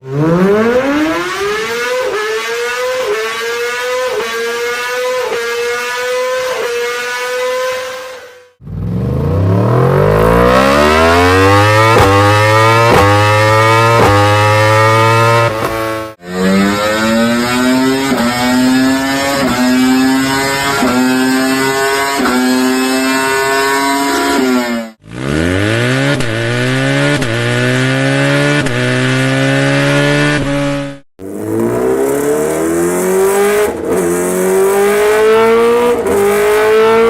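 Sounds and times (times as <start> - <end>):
sportbike engine revving: 0.0 - 37.0.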